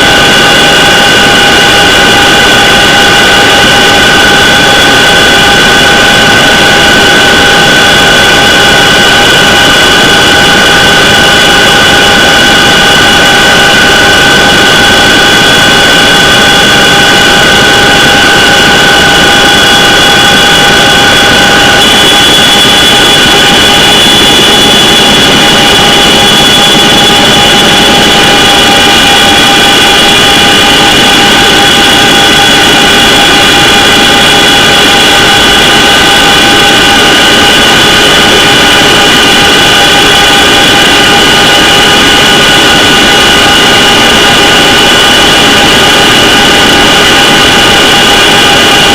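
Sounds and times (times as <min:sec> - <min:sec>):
helicopter engines and rotors: 0:00.0 - 0:48.9.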